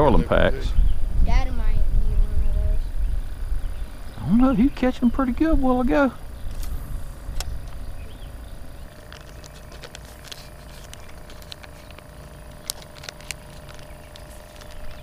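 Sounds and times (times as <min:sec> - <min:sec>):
electric motor humming: 0:01.0 - 0:15.0.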